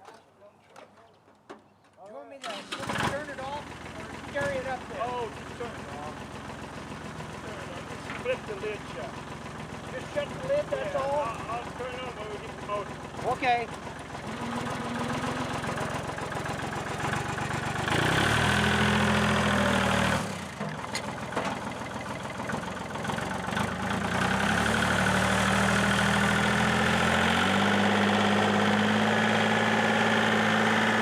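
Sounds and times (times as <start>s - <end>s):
engine running: 2.5s - 31.0s.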